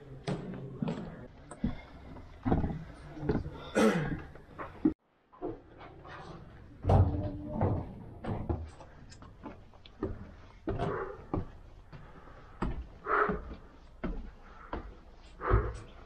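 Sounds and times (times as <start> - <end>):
footsteps and knocks: 0.0 - 16.0.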